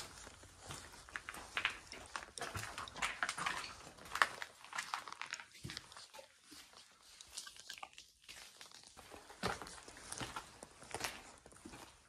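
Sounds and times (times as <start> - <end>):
footsteps crunching on rubble: 0.0 - 7.4, 8.3 - 12.0.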